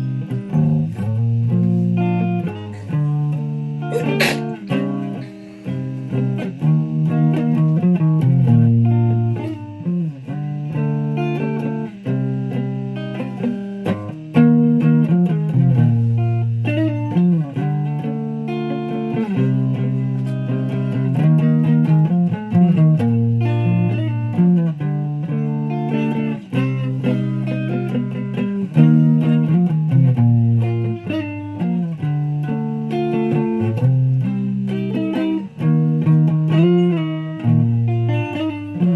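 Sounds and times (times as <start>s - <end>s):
guitar plucked notes and chords: 0.0s - 38.9s.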